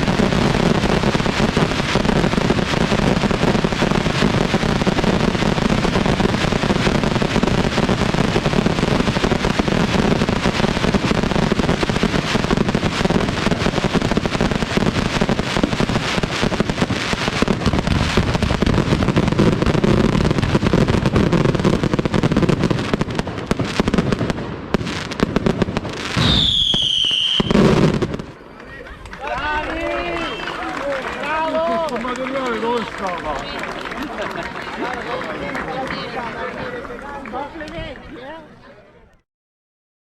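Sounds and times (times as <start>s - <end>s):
fireworks bangs and crackling: 0.0s - 36.7s.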